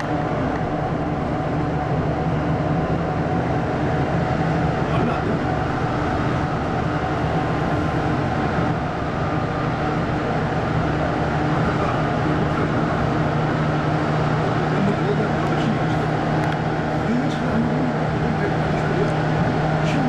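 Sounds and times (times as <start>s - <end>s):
low hum: 0.0s - 20.0s
train rumbling along track: 0.0s - 20.0s.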